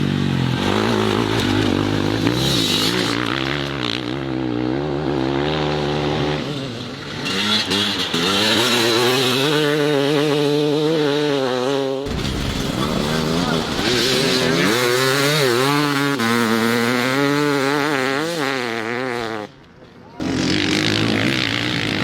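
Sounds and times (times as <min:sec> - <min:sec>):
motorcycle engine revving: 0:00.0 - 0:19.6, 0:20.2 - 0:22.0.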